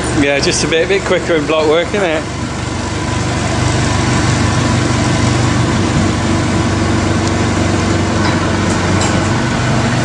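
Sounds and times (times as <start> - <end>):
machine engine idling: 0.0 - 10.0.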